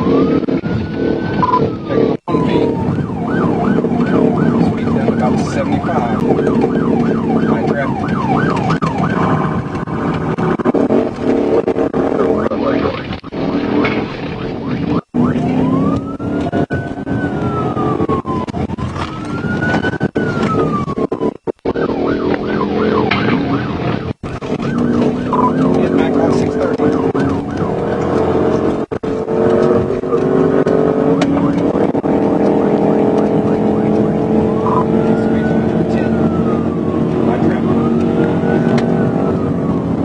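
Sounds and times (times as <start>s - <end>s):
car engine drone: 0.0s - 40.0s
police siren wailing and yelping: 0.0s - 40.0s.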